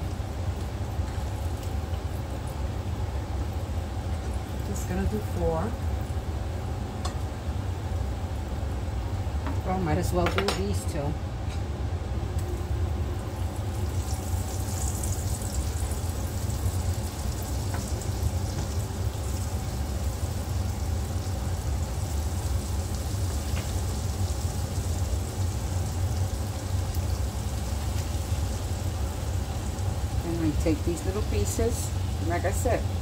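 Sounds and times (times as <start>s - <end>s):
dough frying in hot oil: 0.0s - 11.1s, 11.7s - 33.0s
low hum: 0.0s - 33.0s.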